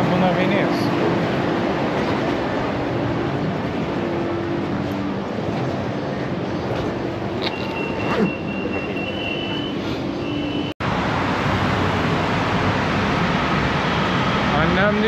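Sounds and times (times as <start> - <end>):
train carriage rumble: 0.0 - 14.0
city street traffic: 0.0 - 15.0.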